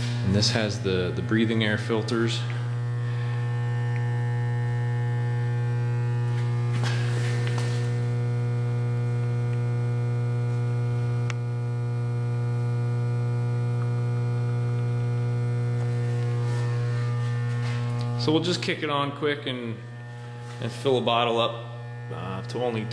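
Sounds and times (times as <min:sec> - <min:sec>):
electrical mains hum: 0:00.0 - 0:22.9.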